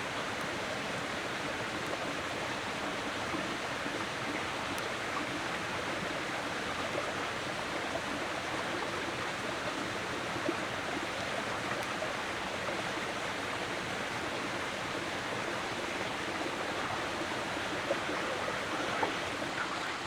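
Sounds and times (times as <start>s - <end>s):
flowing stream water: 0.0s - 20.0s.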